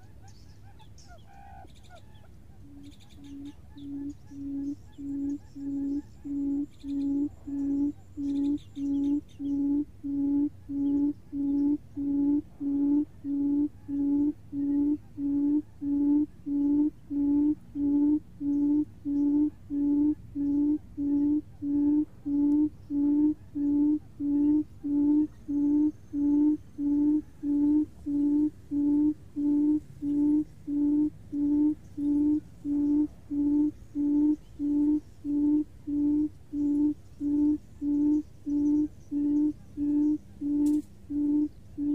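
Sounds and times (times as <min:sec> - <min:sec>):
buttonquail call low hoots: 0:00.0 - 0:41.9.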